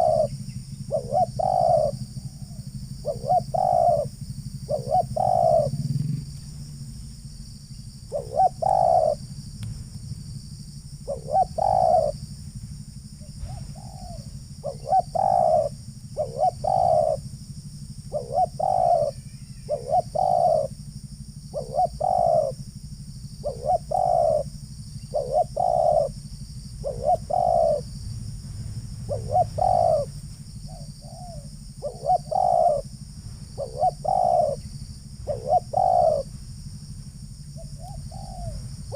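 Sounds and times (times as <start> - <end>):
doves cooing: 0.0 - 38.9
steady low rumble: 0.0 - 38.9.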